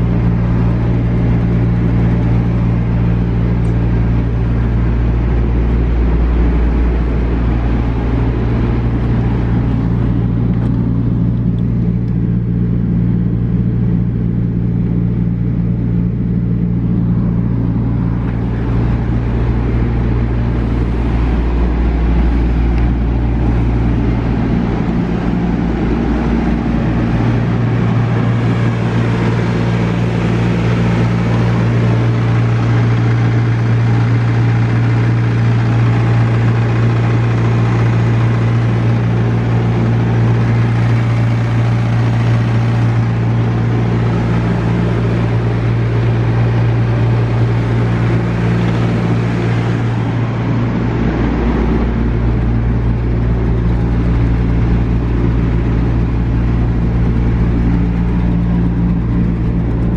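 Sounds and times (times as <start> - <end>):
steady hum: 0.0 - 59.9
vehicle engine idling: 0.0 - 59.9.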